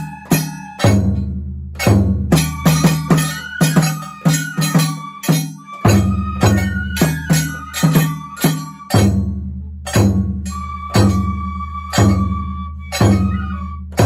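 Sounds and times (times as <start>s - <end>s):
taiko drums beating: 0.0s - 14.0s.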